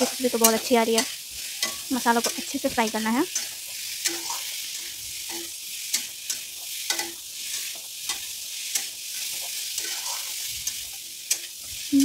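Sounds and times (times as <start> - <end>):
metal spatula scraping pan: 0.0 - 11.9
food sizzling in a pan: 0.0 - 12.0.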